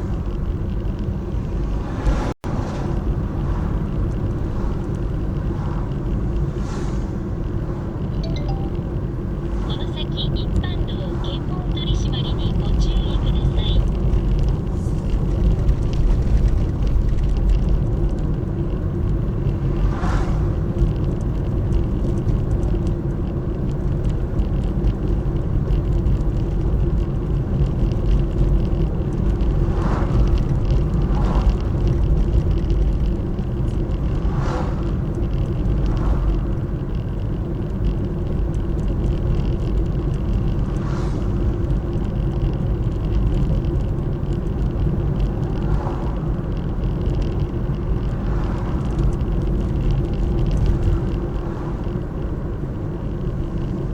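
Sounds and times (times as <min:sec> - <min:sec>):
road vehicle rumble: 0:00.0 - 0:53.9
constant hum: 0:02.6 - 0:53.9.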